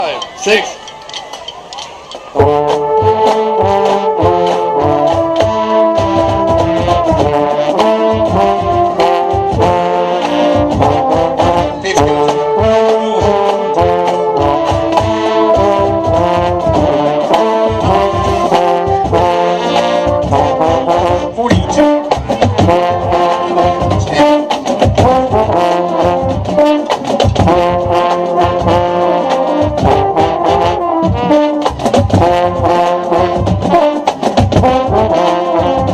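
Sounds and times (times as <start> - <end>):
marching band brass chords: 0.0 - 35.9
steady drum beat: 0.0 - 35.9.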